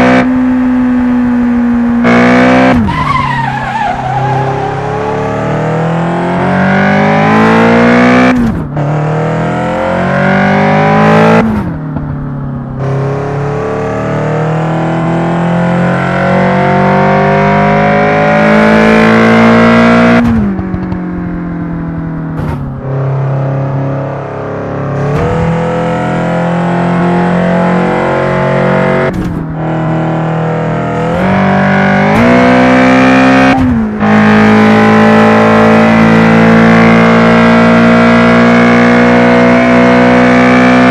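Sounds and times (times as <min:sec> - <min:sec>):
car engine accelerating through gears: 0:00.0 - 0:40.9.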